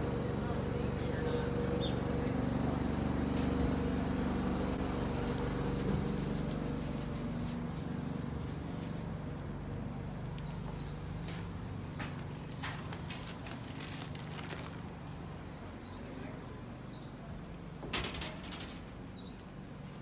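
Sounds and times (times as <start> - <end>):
city street noise: 0.0 - 20.0
vehicle engine humming: 0.0 - 20.0.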